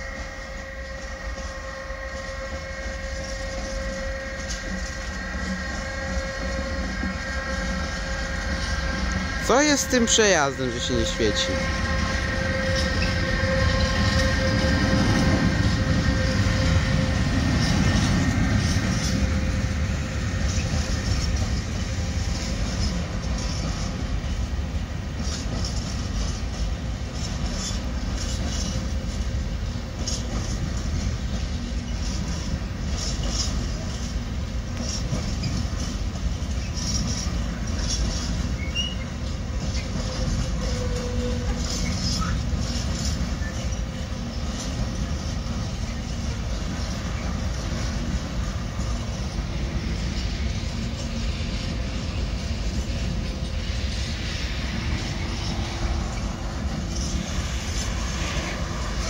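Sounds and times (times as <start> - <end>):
electric locomotive whine: 0.0 - 59.0
freight train rumble: 0.0 - 59.0
wheels clicking over rail joints: 2.2 - 59.0.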